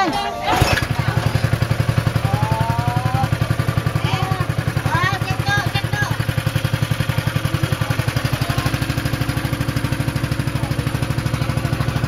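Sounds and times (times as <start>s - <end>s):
boat engine throbbing: 0.5s - 12.0s.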